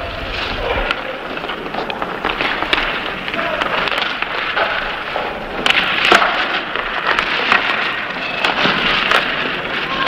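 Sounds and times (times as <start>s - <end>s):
arena crowd din: 0.0s - 10.0s
hockey sticks and puck clacking: 0.0s - 10.0s.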